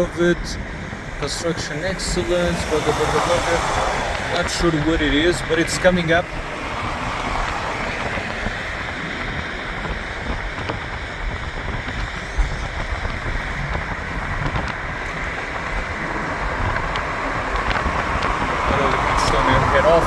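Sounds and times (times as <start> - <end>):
car road and tyre noise: 0.0 - 20.0
wind: 0.0 - 20.0.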